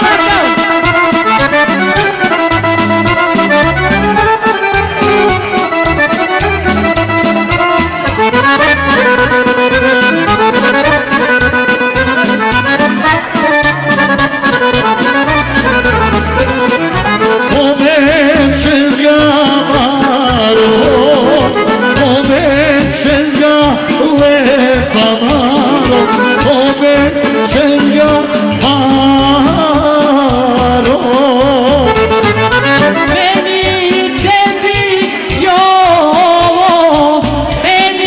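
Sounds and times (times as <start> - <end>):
accordion: 0.0 - 38.0
folk band playing: 0.0 - 38.0.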